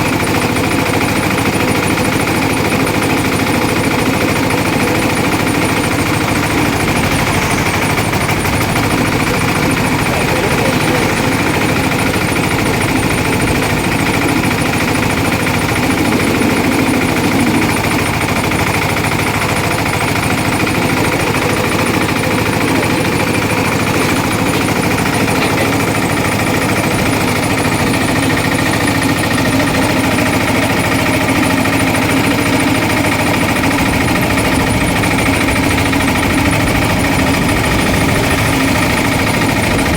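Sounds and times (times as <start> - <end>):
juice crushing machine droning: 0.0 - 39.9.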